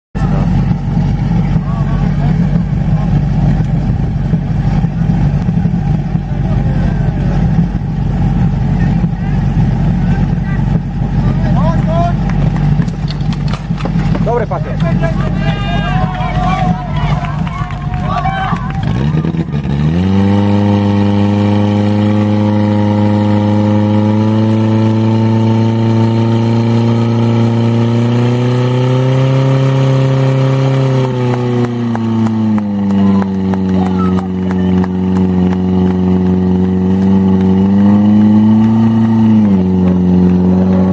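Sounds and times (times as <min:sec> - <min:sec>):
pump engine droning at high revs: 0:00.2 - 0:40.9.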